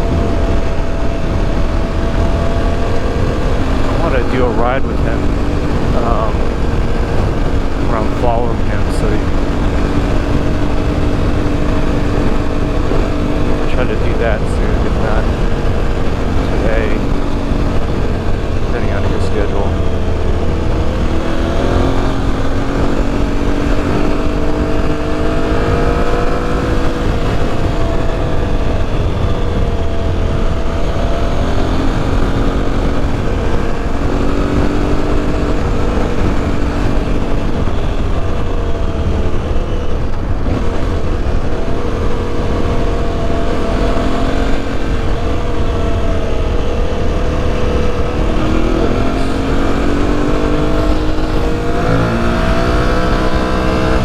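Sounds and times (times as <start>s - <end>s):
low rushing noise: 0.0s - 54.0s
motorcycle engine running: 0.0s - 54.0s.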